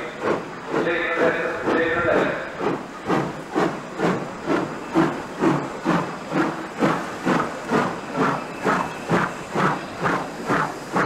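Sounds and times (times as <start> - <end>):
steam locomotive chuffing: 0.0 - 11.0.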